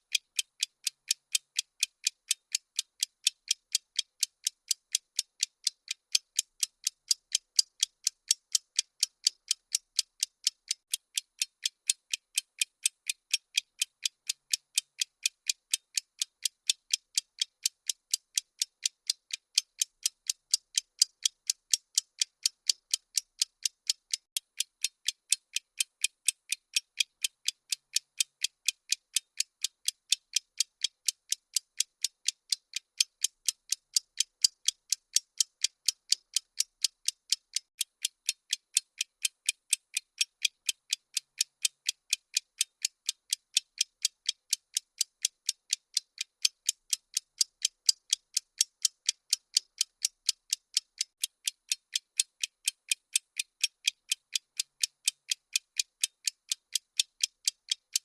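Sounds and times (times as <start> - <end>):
fast ticking clicks: 0.2 - 58.0.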